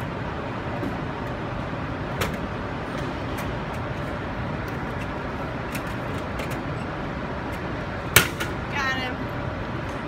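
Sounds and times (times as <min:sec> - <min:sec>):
city street background noise: 0:00.0 - 0:10.0.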